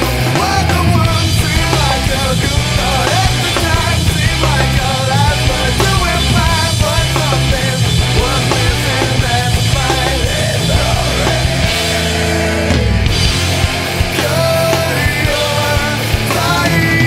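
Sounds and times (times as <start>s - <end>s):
nu metal rock band: 0.0s - 17.0s.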